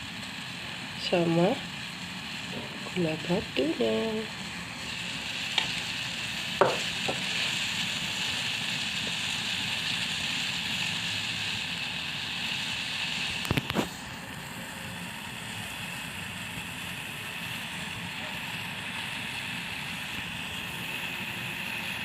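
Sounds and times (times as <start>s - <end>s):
water boiling in a pot: 0.0s - 22.0s.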